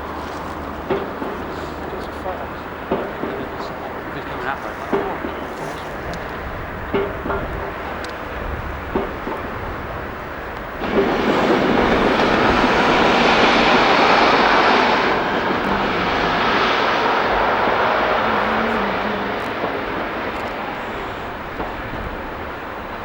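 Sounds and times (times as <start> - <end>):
diesel train engine: 0.0 - 23.0.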